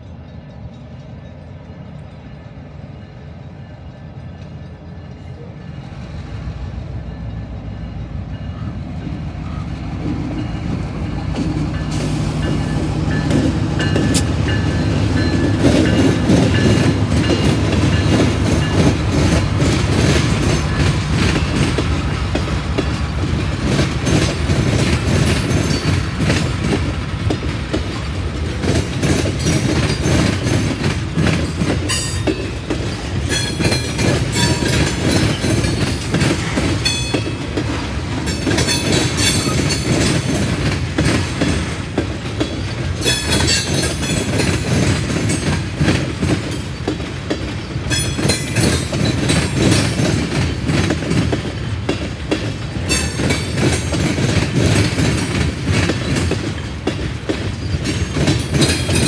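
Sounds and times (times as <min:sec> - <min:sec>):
diesel locomotive passing: 0:00.0 - 0:59.0
wheels clicking over rail joints: 0:10.0 - 0:59.0.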